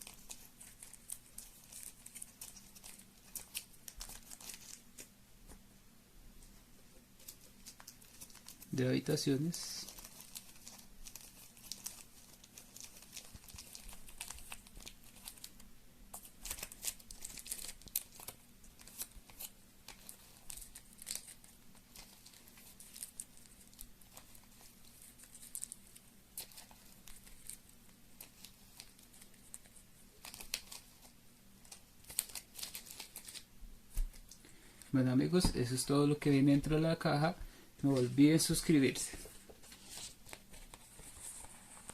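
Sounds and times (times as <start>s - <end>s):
faint crinkling and rustling: 0.0s - 5.6s, 6.3s - 41.9s.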